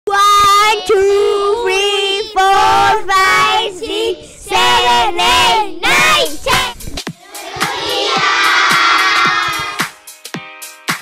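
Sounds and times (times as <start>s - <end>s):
children singing: 0.1s - 9.9s.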